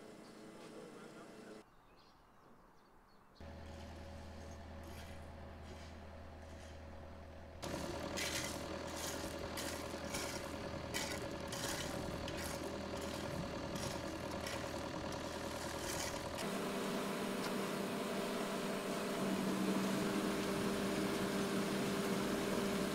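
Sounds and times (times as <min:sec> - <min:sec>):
excavator engine idling: 0:03.4 - 0:22.9
rake scraping gravel: 0:03.4 - 0:22.9.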